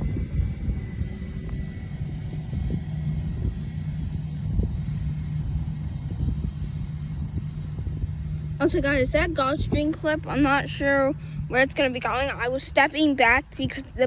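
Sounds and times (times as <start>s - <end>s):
distant jet engines rumbling: 0.0s - 14.0s
faint even hum: 0.0s - 14.0s.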